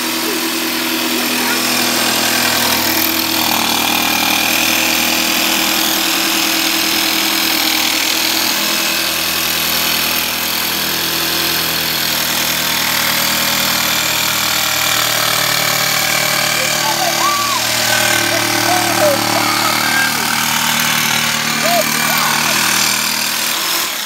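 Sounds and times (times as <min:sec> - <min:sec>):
jigsaw cutting plywood: 0:00.0 - 0:24.0.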